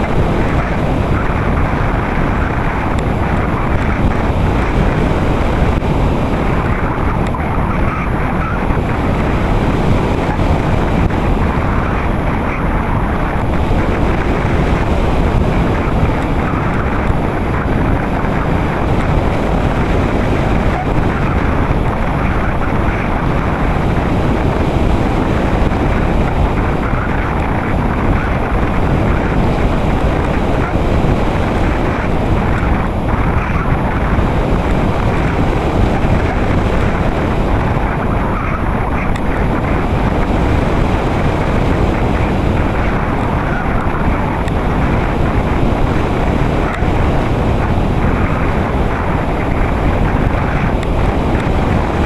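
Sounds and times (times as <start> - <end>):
faint high whine: 0.0 - 52.0
wind buffeting camera: 0.0 - 52.0.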